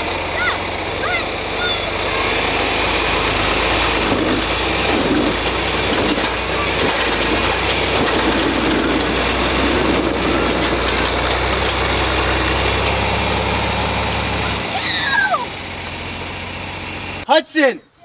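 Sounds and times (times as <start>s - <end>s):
tractor engine running: 0.0s - 17.3s.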